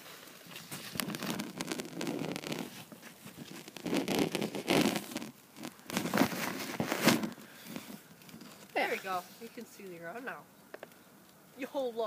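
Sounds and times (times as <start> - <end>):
rustling and scraping at microphone: 0.0 - 11.0.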